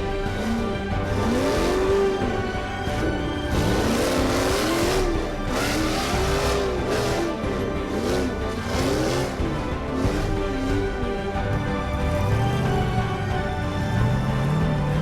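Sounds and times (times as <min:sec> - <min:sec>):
background music: 0:00.0 - 0:15.0
rising and falling whining tones: 0:00.0 - 0:15.0.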